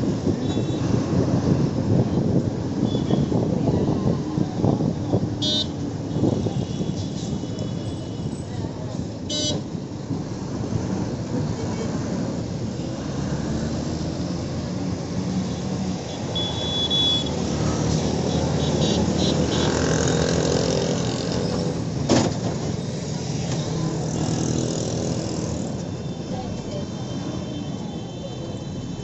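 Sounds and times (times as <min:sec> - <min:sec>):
road traffic noise: 0:00.0 - 0:29.0.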